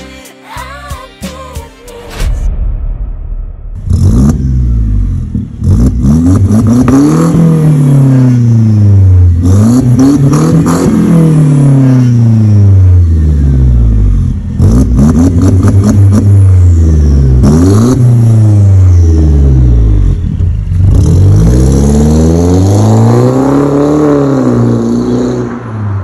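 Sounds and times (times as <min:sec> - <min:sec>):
car engine revving with crackle: 0:03.8 - 0:26.0.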